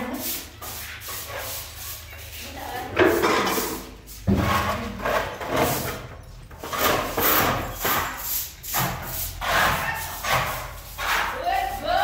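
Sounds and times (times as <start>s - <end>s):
rhythmic rubbing strokes: 0.0s - 12.0s.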